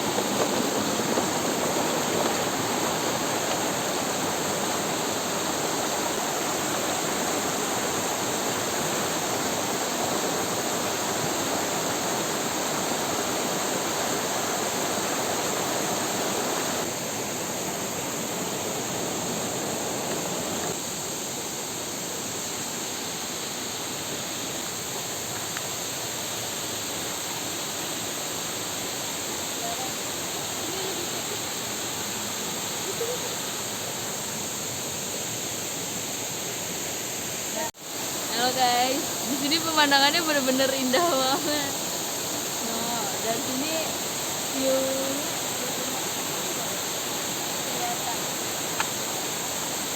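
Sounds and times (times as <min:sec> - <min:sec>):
waterfall and river rushing: 0:00.0 - 0:49.9.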